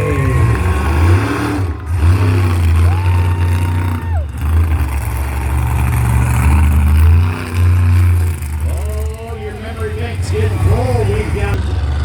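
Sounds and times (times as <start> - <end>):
large truck engine rumbling: 0.0 - 12.0.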